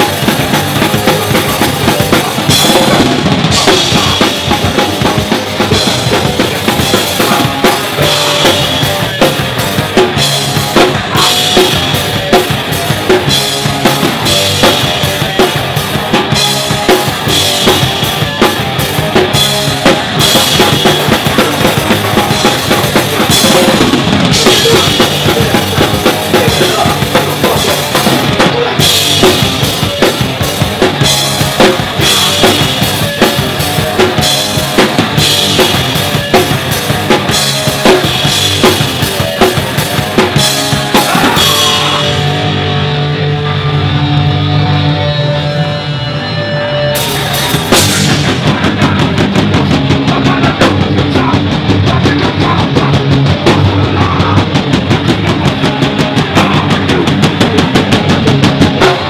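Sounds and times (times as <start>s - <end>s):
hardcore punk band playing live: 0.0s - 59.0s.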